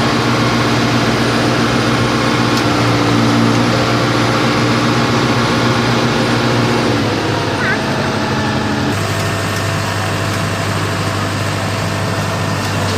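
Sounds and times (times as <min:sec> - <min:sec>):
drilling machine engine running: 0:00.0 - 0:12.9.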